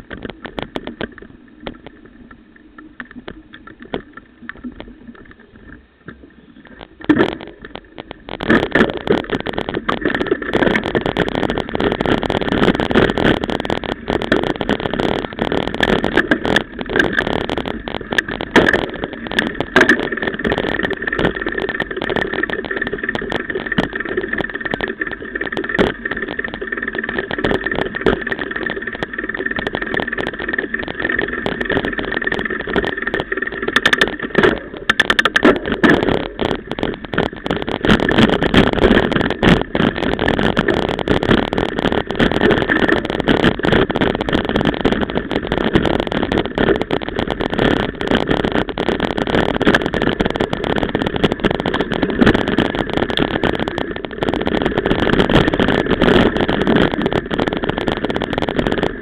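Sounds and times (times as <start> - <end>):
wind noise: 0.0 - 59.0
bike rattling over bumps: 6.7 - 59.0.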